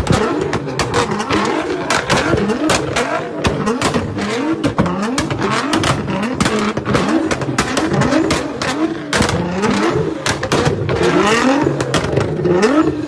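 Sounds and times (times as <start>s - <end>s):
car engine revving: 0.0s - 13.0s
exhaust pops and crackles: 0.0s - 13.0s.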